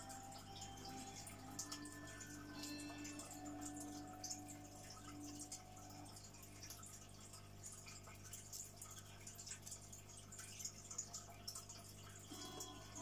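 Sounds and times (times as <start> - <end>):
aquarium air stone bubbling: 0.0 - 13.0.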